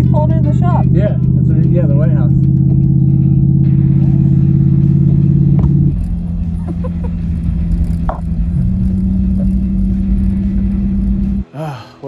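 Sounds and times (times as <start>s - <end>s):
car engine drone inside cabin: 0.1s - 11.4s.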